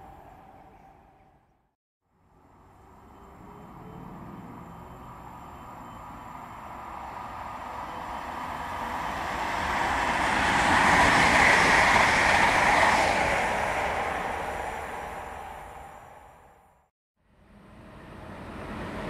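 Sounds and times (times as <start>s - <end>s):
train passing: 0.0s - 16.9s, 17.5s - 19.0s.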